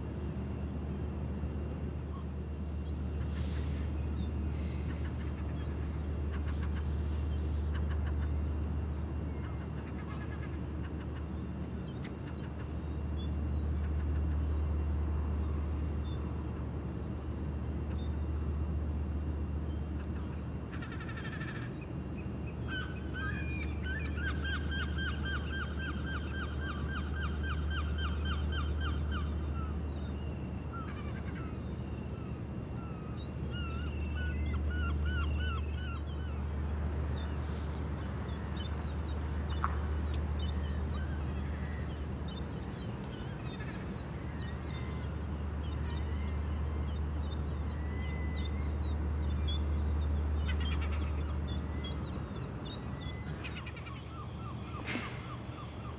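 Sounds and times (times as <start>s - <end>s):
steady low hum: 0.0s - 55.9s
birds calling: 2.1s - 15.4s, 19.7s - 55.9s.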